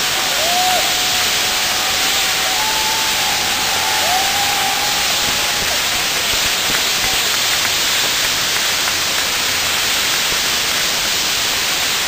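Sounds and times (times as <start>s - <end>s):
ground firework wheel hissing: 0.0s - 12.0s.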